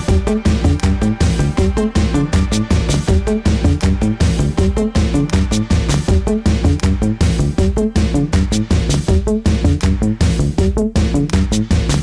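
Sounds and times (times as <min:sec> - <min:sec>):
electronic music with deep bass: 0:00.0 - 0:12.0.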